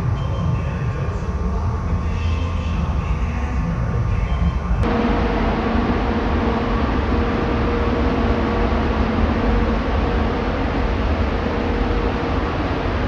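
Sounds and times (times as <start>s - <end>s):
low fan hum: 0.0s - 13.0s.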